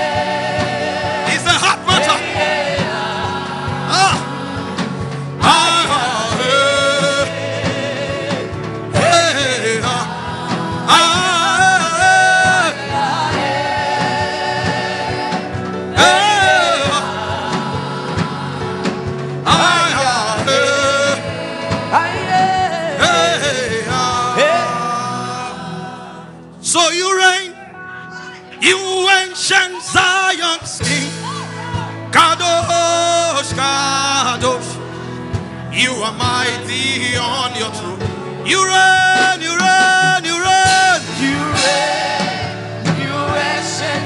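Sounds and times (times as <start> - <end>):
instrumental backing with beat: 0.0 - 26.6, 27.5 - 44.0.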